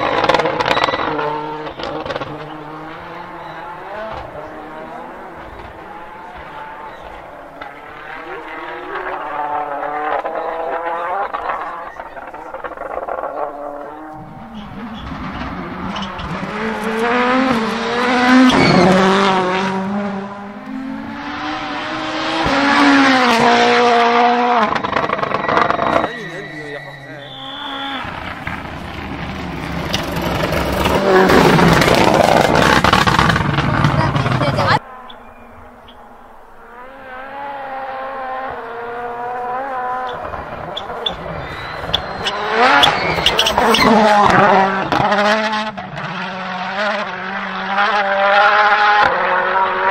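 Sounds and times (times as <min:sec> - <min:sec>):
rally car engine accelerating: 0:00.0 - 0:49.9.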